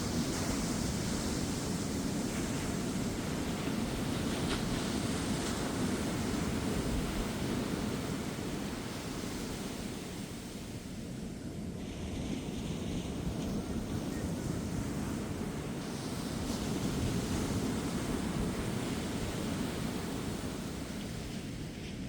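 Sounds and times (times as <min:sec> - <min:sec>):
ocean surf breaking on beach: 0:00.0 - 0:22.0.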